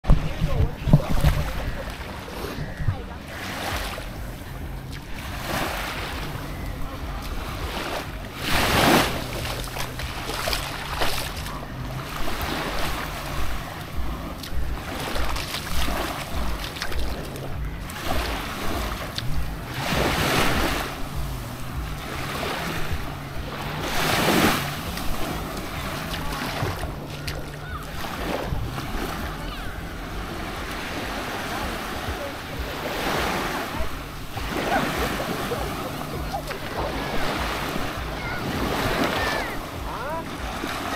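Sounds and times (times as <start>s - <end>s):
small waves lapping on sand: 0.0s - 40.9s
low steady hum: 0.1s - 38.5s.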